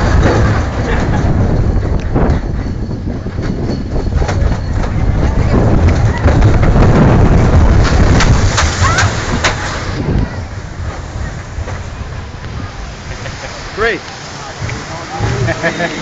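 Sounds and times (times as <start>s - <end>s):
roller coaster cars rumbling: 0.0s - 16.0s.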